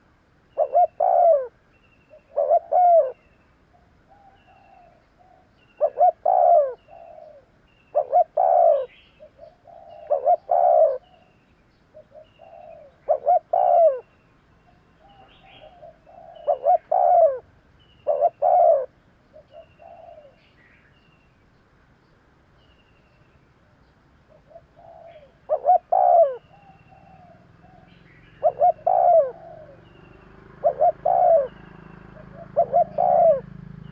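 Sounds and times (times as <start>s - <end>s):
dove cooing: 0.0s - 20.5s, 24.3s - 33.9s
small bird chirping: 0.5s - 33.9s.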